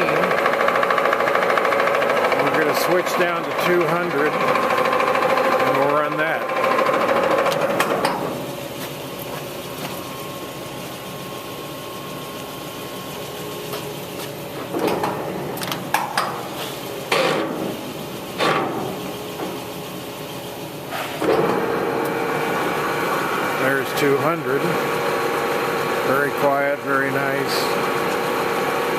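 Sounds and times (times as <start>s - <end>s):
metal lathe spindle running: 0.0s - 14.8s, 17.7s - 28.9s.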